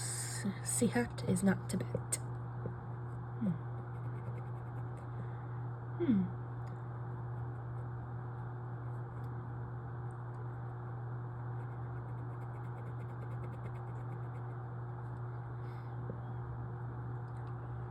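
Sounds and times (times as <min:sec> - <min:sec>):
low electrical hum: 0:00.0 - 0:17.9.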